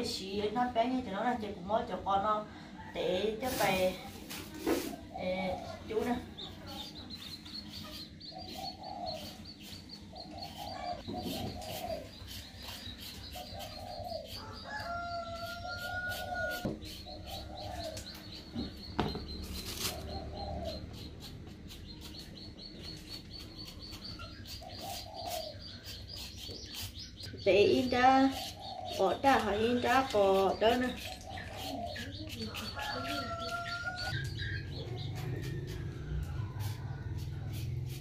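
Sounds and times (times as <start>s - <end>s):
chickens clucking: 4.2s - 38.0s.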